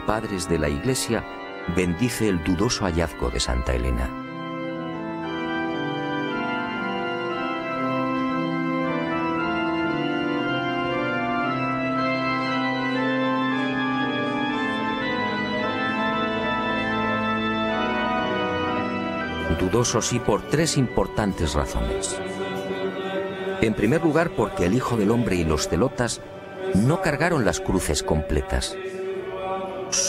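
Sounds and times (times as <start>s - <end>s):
slow organ chords: 0.0s - 30.0s.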